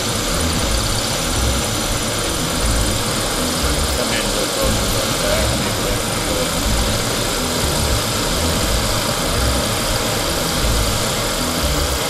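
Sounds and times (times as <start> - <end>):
gas torch flame hissing: 0.0 - 12.0.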